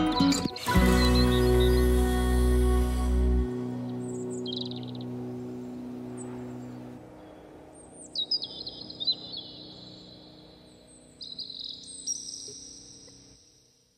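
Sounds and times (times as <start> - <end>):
songbirds chirping and whistling: 0.0 - 2.3, 3.8 - 13.4
low sustained music notes: 0.0 - 13.9.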